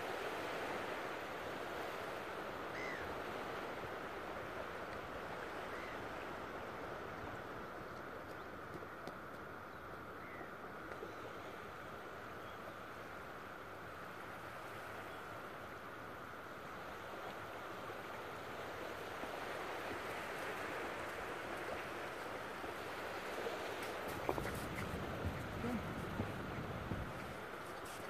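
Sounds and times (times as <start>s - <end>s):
surf hissing on a beach: 0.0s - 7.8s, 10.6s - 28.0s.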